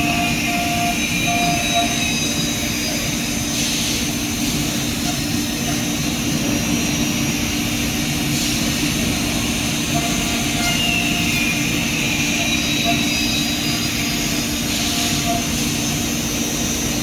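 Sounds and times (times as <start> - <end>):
router machine drone: 0.0 - 17.0.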